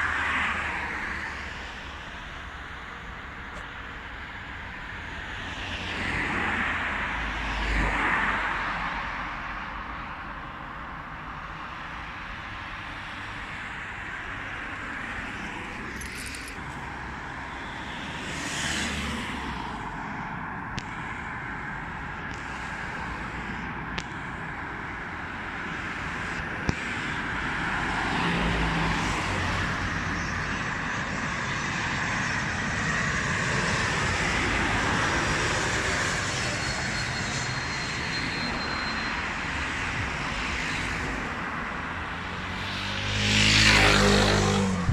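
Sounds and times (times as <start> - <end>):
high turbine whine: 0.0 - 44.9
jet engines roaring: 0.0 - 44.9.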